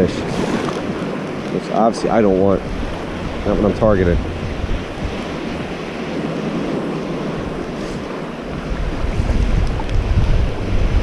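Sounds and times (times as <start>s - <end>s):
small surf washing on beach: 0.0s - 11.0s
wind buffeting microphone: 0.0s - 11.0s.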